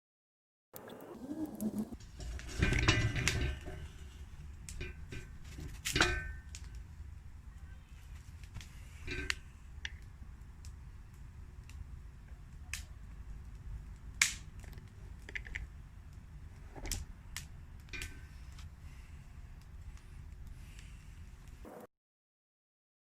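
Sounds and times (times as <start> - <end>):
campfire crackling and popping: 0.8 - 21.6
low steady rumble: 1.0 - 21.6.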